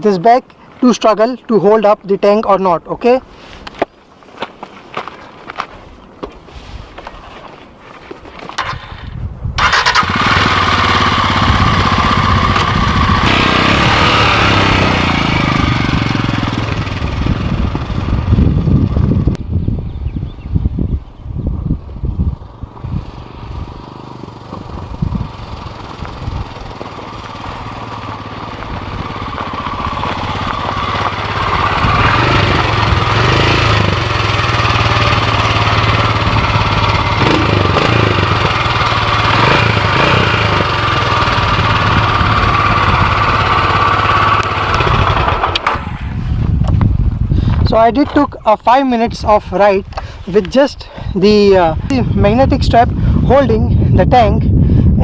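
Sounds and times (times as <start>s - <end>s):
motorcycle engine rumbling: 8.5s - 55.0s.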